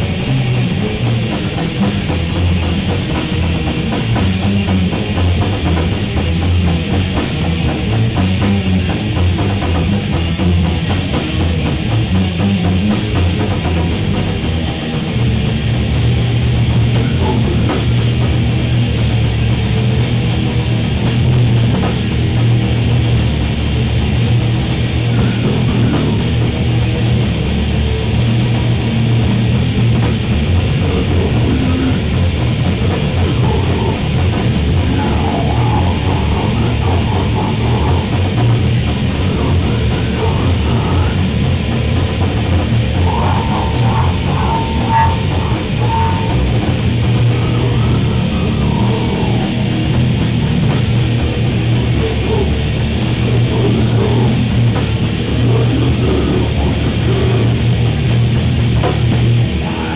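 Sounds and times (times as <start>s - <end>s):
distorted electric guitars: 0.0s - 59.9s
drum kit: 0.0s - 59.9s
held lead guitar notes: 0.0s - 59.9s.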